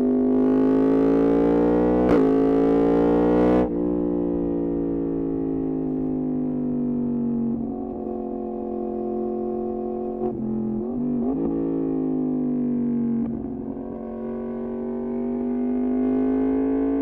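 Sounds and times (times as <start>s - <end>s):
motorcycle engine decelerating: 0.3s - 17.0s.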